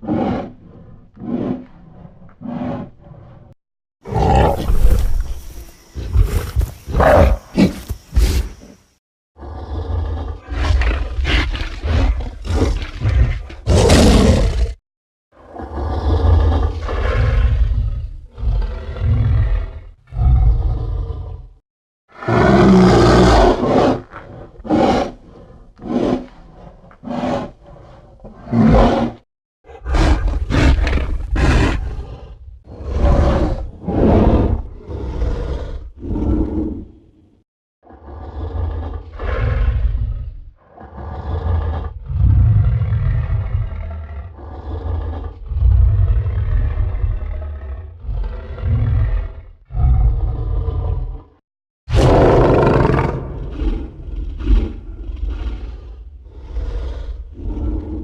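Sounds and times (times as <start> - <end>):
giant ape roars and grunts: 0.0 - 8.6, 9.4 - 14.8, 15.4 - 37.2, 37.8 - 58.0.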